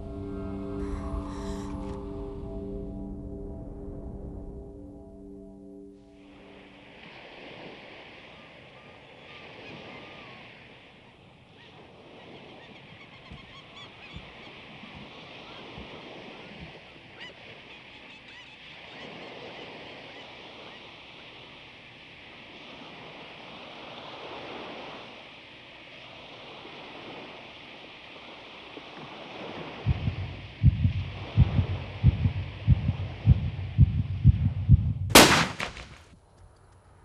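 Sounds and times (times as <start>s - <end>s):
waves washing in: 0.0s - 4.9s, 6.0s - 36.0s.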